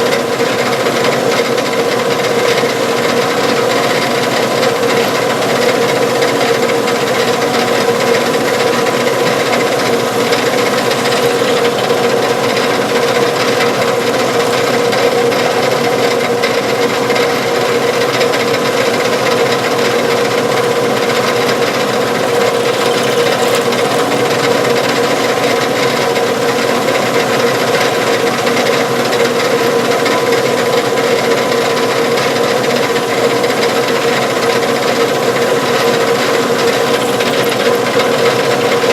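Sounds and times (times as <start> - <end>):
lathe motor hum: 0.0 - 38.9
lathe scraping cut: 0.0 - 38.9.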